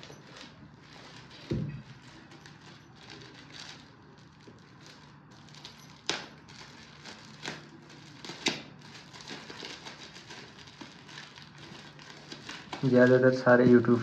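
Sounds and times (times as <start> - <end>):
metallic foil crinkling: 0.0 - 14.0.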